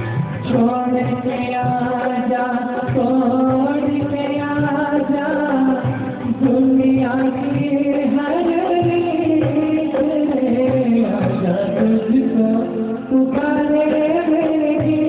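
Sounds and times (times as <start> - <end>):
band accompaniment with steady beat: 0.0 - 15.0
man singing into microphone: 0.0 - 15.0.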